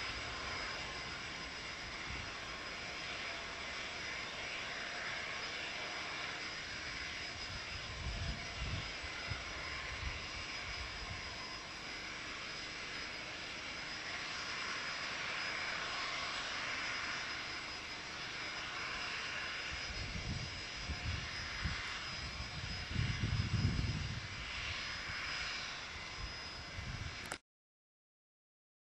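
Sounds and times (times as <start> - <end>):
jet engines at takeoff: 0.0 - 27.4.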